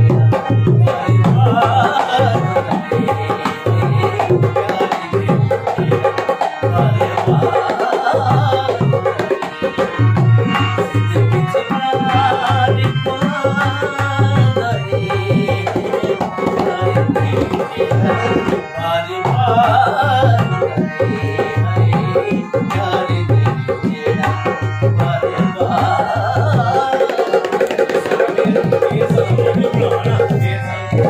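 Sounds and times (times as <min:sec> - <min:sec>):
hand drum rhythm: 0:00.0 - 0:31.0
harmonium playing held tones: 0:00.0 - 0:31.0
person singing: 0:00.0 - 0:31.0.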